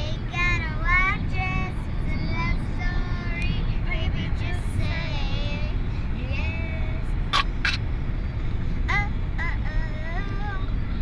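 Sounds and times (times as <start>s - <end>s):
child singing: 0.0s - 7.1s, 8.9s - 10.8s
car road noise: 0.0s - 11.0s.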